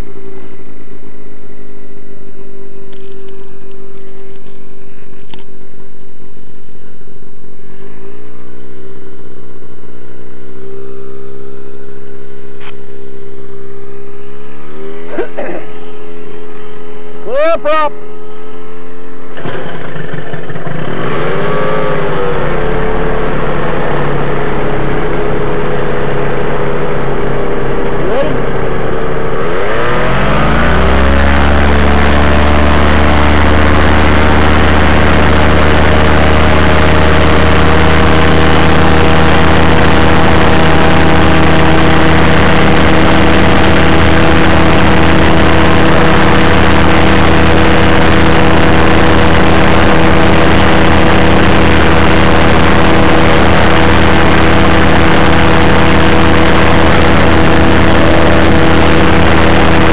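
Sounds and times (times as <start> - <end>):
ultralight aircraft engine running: 0.0 - 59.9.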